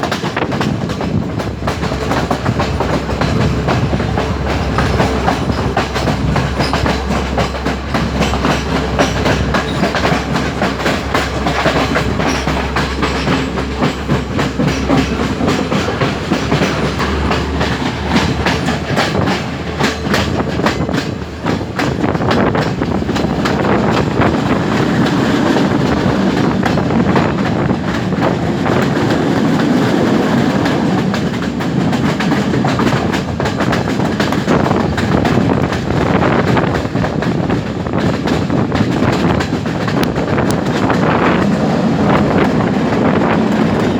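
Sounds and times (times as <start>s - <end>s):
continuous train rumble: 0.0s - 43.9s
train wheels clattering over rail joints: 0.0s - 43.9s.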